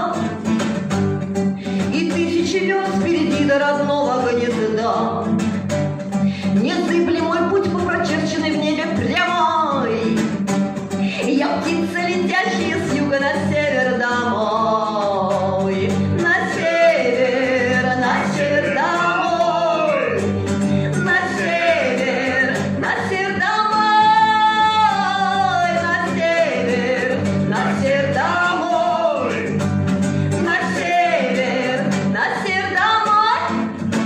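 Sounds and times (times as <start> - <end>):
woman singing: 0.0 - 0.5, 1.7 - 5.4, 6.4 - 10.4, 11.2 - 29.6, 30.3 - 33.8
classical guitar: 0.0 - 34.0.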